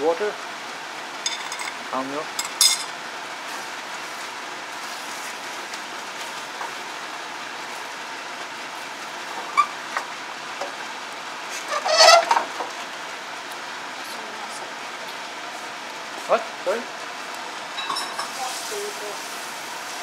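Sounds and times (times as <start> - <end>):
curry simmering hiss: 0.0 - 20.0.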